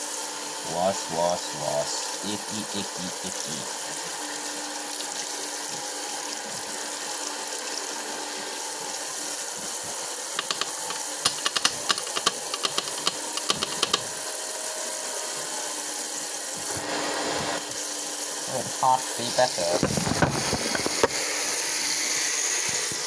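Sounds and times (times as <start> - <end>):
tap water running into sink: 0.0 - 23.0.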